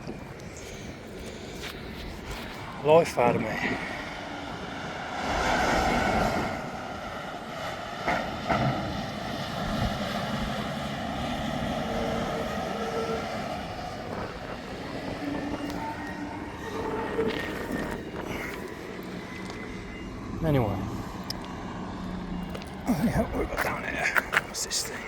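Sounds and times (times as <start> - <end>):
vehicle engines rumbling: 0.0 - 25.0.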